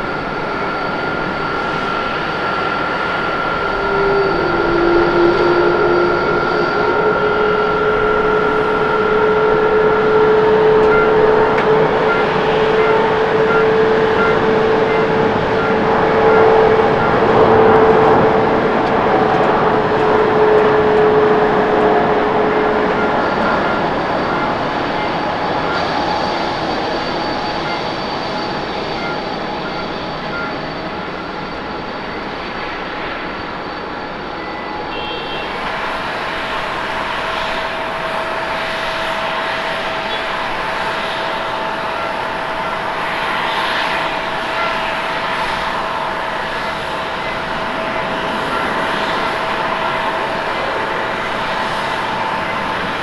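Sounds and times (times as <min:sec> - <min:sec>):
jet engine roar: 0:00.0 - 0:53.0.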